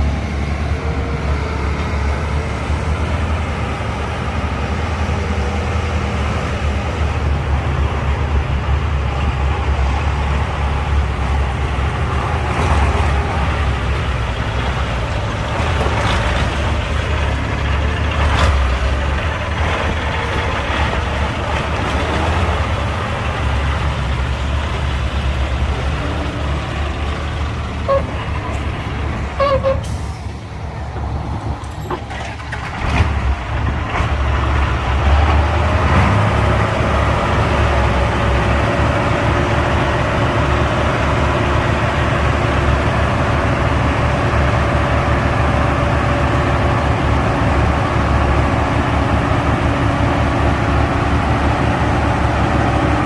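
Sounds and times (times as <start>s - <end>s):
heavy diesel engines under load: 0.0s - 53.0s.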